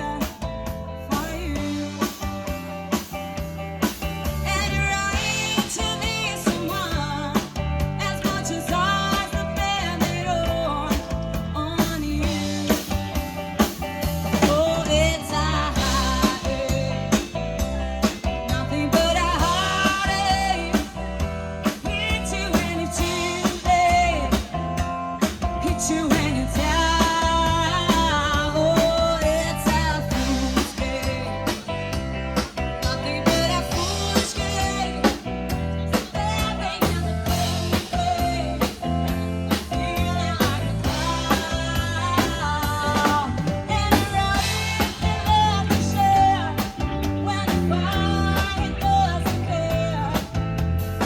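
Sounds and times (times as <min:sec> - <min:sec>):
drum kit beat: 0:00.0 - 0:51.0
guitar: 0:00.0 - 0:51.0
person singing: 0:04.4 - 0:13.0, 0:14.3 - 0:24.6, 0:25.4 - 0:31.7, 0:32.8 - 0:38.9, 0:39.5 - 0:50.5.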